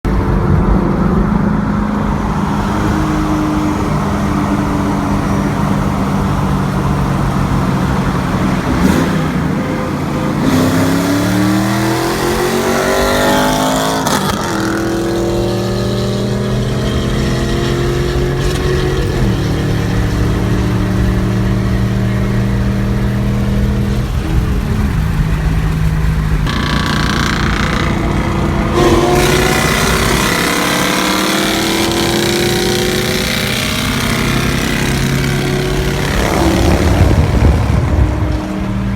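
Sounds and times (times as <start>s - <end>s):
car exhaust idling and revving: 0.1s - 38.9s.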